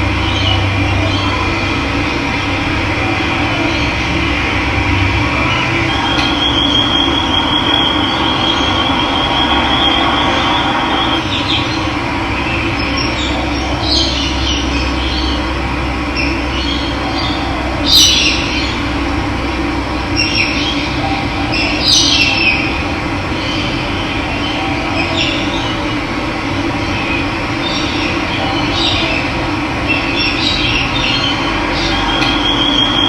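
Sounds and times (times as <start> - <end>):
birds chirping: 0.0 - 19.0, 20.0 - 33.0.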